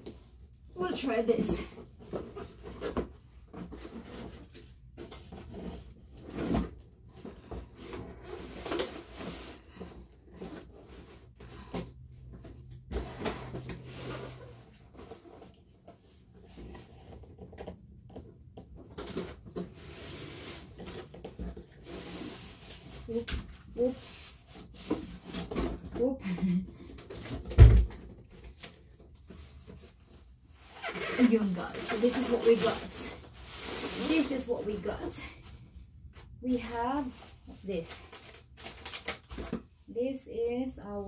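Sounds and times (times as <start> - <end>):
cardboard box rustling and scraping: 0.9 - 26.1, 26.9 - 35.6.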